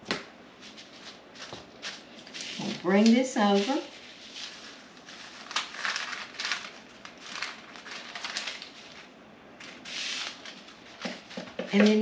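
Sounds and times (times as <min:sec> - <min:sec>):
parchment paper rustling and crinkling: 0:00.6 - 0:12.0.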